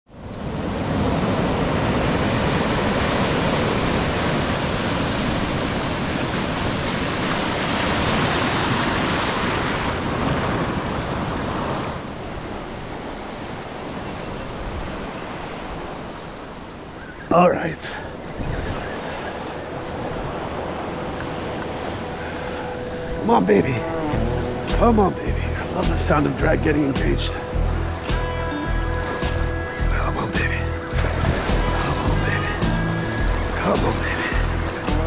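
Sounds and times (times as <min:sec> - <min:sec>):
ocean surf breaking: 0:00.1 - 0:35.0.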